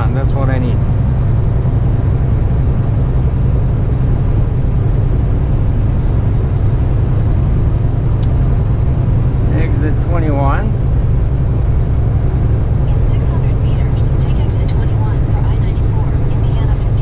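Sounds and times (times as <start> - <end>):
diesel truck engine rumble: 0.0 - 17.0
road noise: 0.0 - 17.0.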